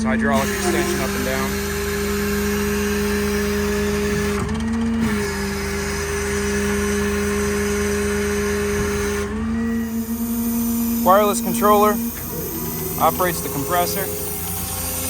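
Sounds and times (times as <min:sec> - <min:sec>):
hydraulic pump whine: 0:00.0 - 0:15.0.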